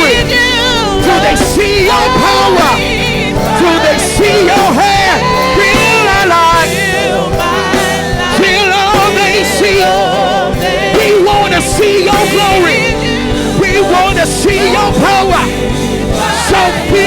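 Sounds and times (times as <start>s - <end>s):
gospel band playing: 0.0s - 17.0s
voices singing and ad-libbing: 0.0s - 17.0s.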